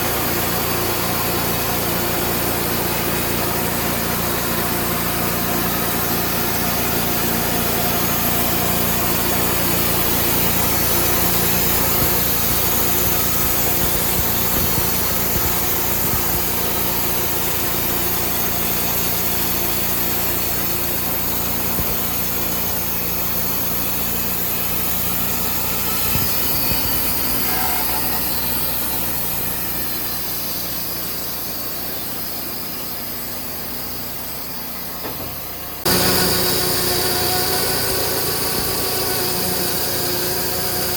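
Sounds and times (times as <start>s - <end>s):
engine hum: 0.0s - 30.3s, 35.0s - 40.9s
sawmill blade sawing wood: 0.0s - 33.8s, 35.8s - 40.9s.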